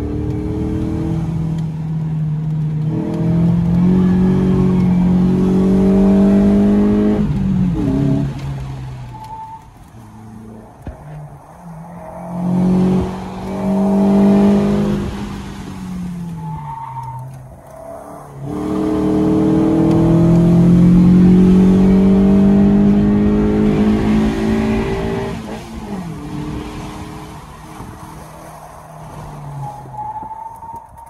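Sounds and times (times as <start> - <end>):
car engine revving: 0.0 - 30.2.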